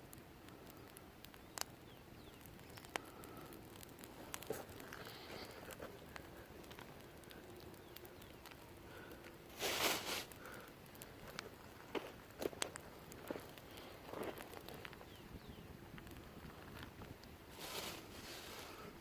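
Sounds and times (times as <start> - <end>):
sharp pops: 0.0 - 18.1
campfire crackling: 0.0 - 19.0.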